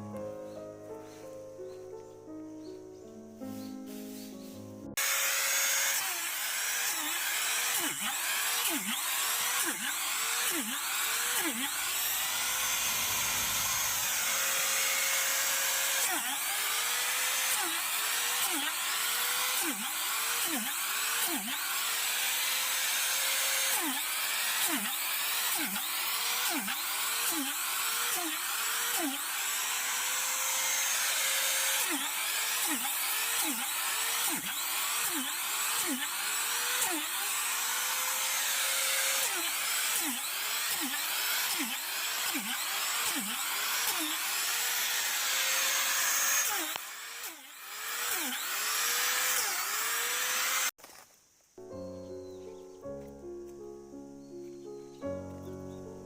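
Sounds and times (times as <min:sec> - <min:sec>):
power drill boring into log: 0:05.0 - 0:51.0.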